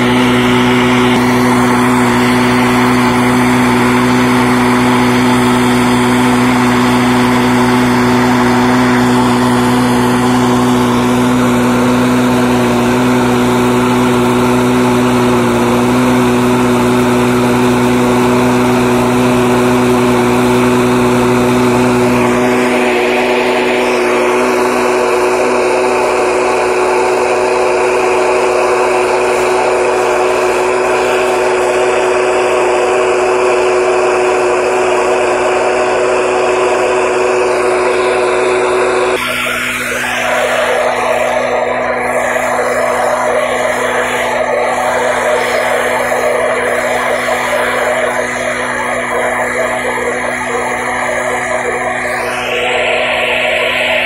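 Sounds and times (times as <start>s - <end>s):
low hum: 0.0s - 54.0s
small petrol engine running: 0.0s - 54.0s.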